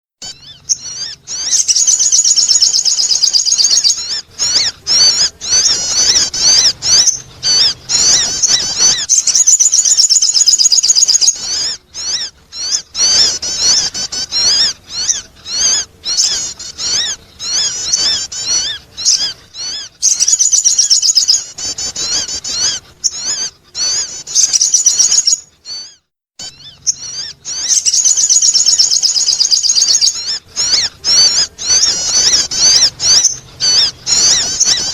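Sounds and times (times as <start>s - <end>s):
bird twittering and trilling: 0.2s - 34.9s.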